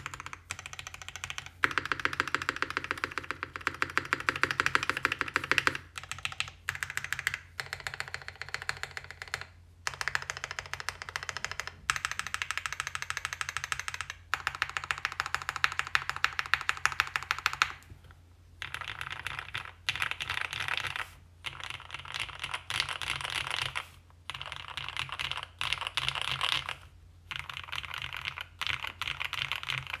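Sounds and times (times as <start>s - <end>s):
fast typing on mechanical keyboard: 0.0s - 17.8s, 18.6s - 30.0s.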